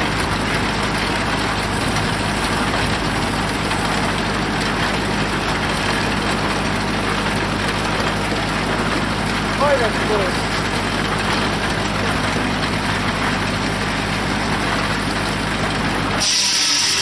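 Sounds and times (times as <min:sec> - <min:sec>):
circular sawmill humming: 0:00.0 - 0:17.0.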